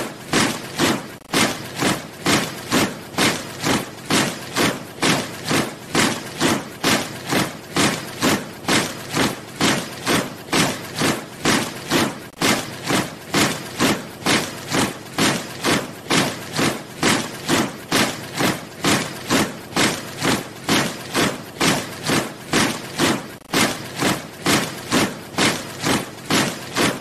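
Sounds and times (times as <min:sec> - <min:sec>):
boots marching in step: 0:00.0 - 0:27.0.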